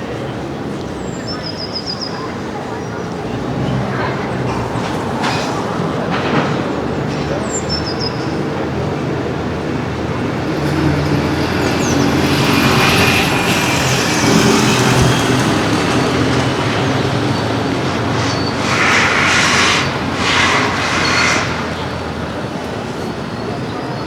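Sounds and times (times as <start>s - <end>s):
large vehicle engine running: 2.4s - 24.0s
traffic hiss: 3.1s - 24.0s.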